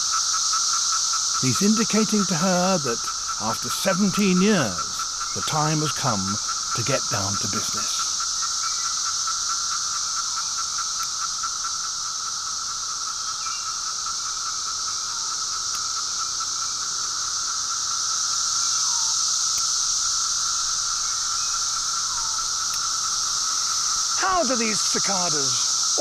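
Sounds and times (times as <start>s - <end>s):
cicada call dropping in pitch: 0.0s - 26.0s
cicadas buzzing: 0.0s - 26.0s.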